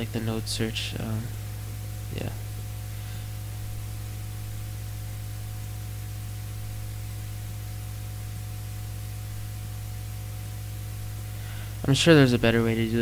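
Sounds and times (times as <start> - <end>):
even hiss: 0.0 - 13.0
low electrical hum: 0.0 - 13.0.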